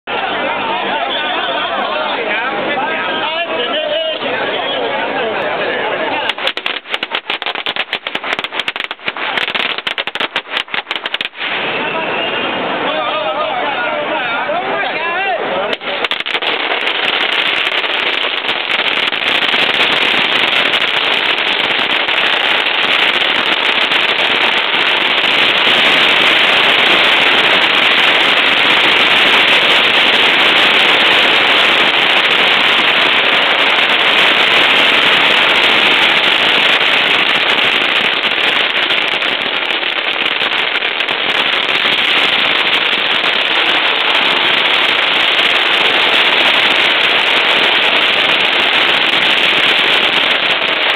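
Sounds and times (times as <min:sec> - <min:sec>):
firecrackers crackling: 0:00.1 - 0:50.9.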